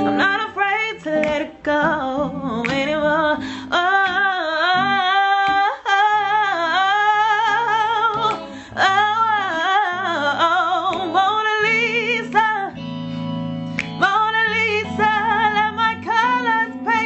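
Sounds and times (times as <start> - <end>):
woman singing with vibrato: 0.0 - 12.8, 13.9 - 17.0
soft guitar accompaniment: 0.0 - 17.0.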